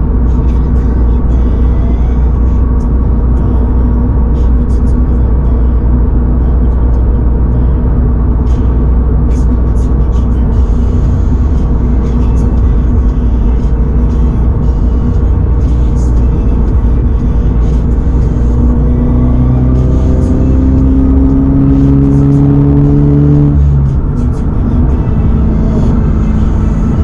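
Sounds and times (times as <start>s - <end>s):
car engine droning: 0.0s - 27.0s
road and tyre rumble: 0.0s - 27.0s.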